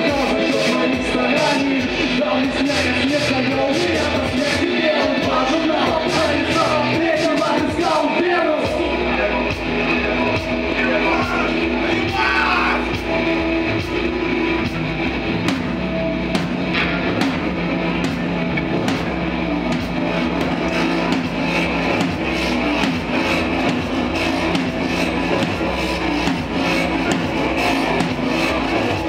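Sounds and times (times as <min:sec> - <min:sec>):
drum beat: 0:00.0 - 0:29.0
live rock band playing: 0:00.0 - 0:29.0.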